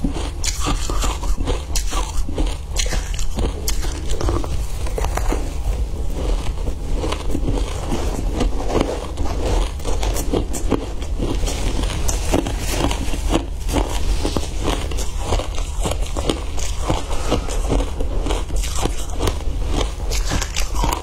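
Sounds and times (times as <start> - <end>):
shaved ice crunching when chewed: 0.0 - 21.0
steady low hum: 0.0 - 21.0.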